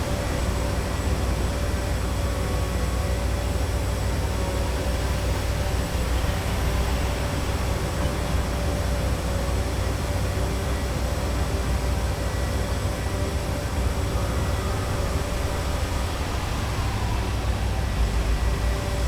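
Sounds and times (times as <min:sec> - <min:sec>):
engine hum: 0:00.0 - 0:19.0
low traffic rumble: 0:00.0 - 0:19.0.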